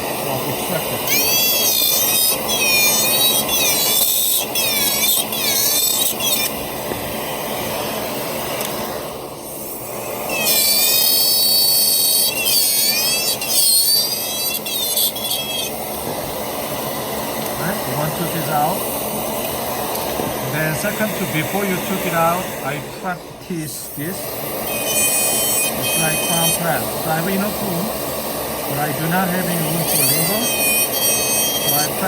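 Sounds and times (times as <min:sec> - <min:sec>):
dental handpiece whine: 0:00.0 - 0:32.0
steady hiss: 0:00.0 - 0:32.0.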